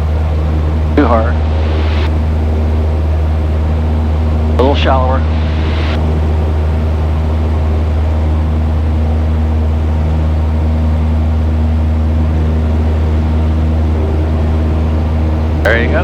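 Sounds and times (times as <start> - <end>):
propeller aircraft engine drone: 0.0 - 16.0.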